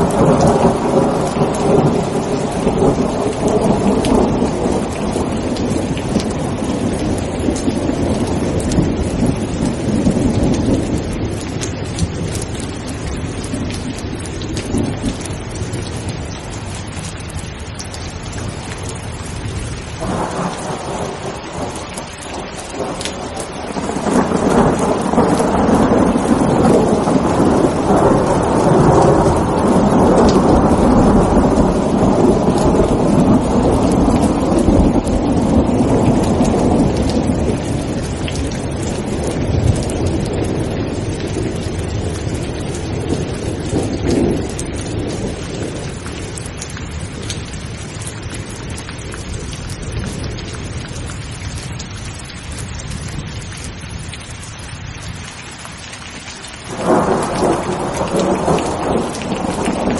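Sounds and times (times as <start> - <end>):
thunder rumbling: 0.0 - 17.0, 17.7 - 51.3, 56.6 - 59.9
heavy rain hissing: 0.0 - 52.0, 56.2 - 59.9.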